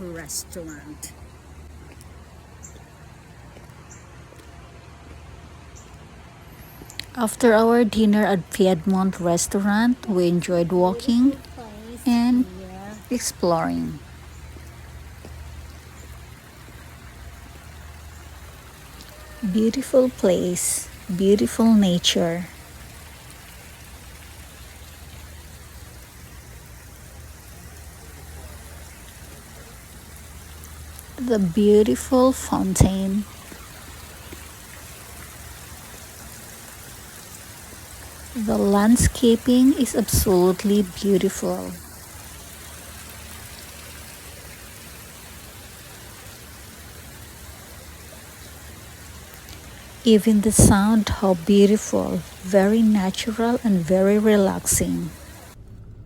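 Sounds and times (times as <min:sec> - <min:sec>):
fountain water splashing: 0:00.0 - 0:55.6.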